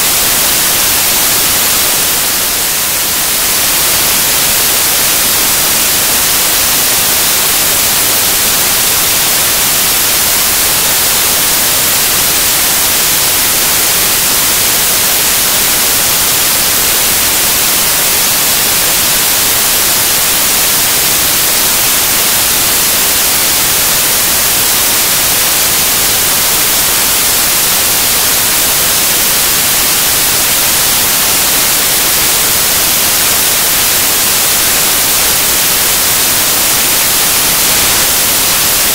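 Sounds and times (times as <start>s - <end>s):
loud static hiss: 0.0s - 38.9s.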